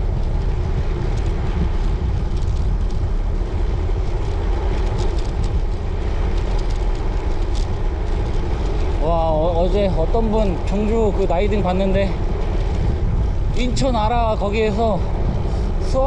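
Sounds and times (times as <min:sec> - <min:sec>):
road bike road noise: 0:00.0 - 0:16.0
wind rumble on microphone: 0:00.0 - 0:16.0.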